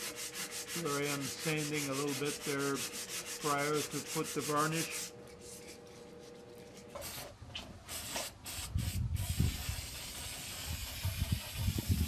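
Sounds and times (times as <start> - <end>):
sandpaper sanding wood: 0.0 - 5.8, 7.9 - 12.0.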